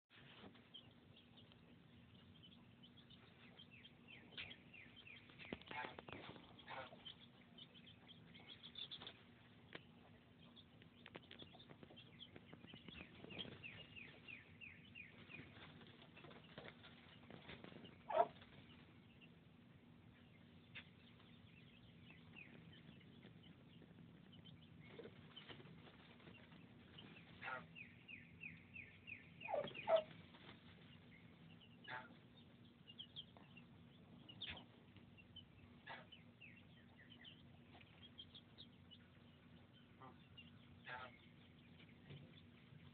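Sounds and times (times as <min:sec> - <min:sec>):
chicks peeping: 0:00.1 - 0:42.9.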